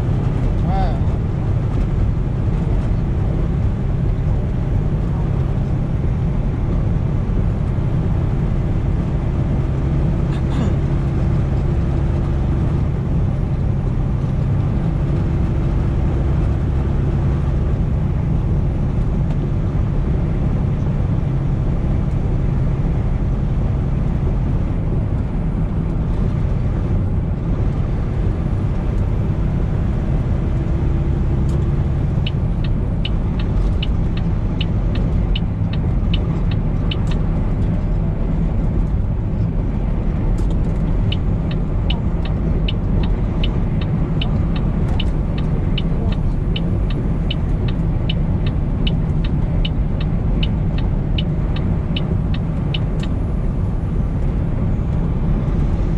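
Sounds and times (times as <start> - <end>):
diesel truck engine droning: 0.0 - 55.9
road noise inside cab: 0.0 - 55.9.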